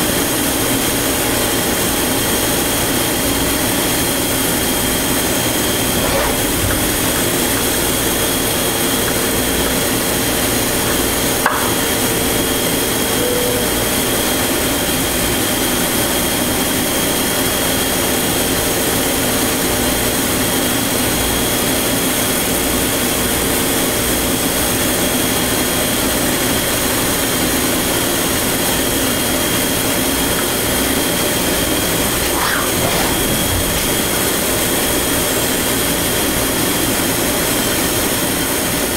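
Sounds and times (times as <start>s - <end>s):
machining spindle whirring and whining: 0.0s - 22.2s, 26.0s - 38.2s.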